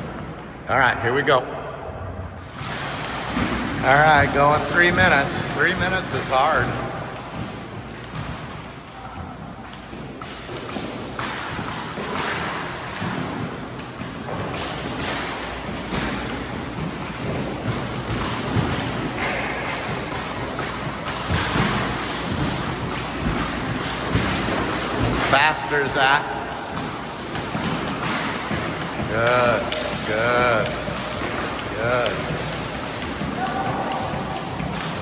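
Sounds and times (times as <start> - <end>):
ball thumps echoing: 0.0 - 35.0.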